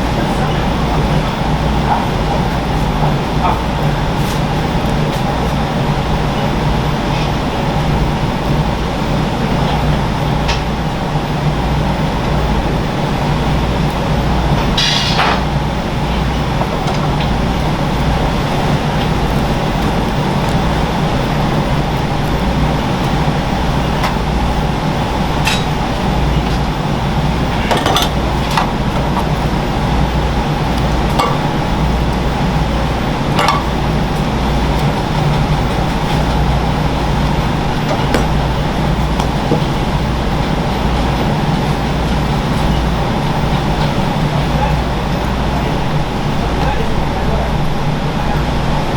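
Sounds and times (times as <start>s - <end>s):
low hum of kitchen machinery: 0.0s - 48.9s.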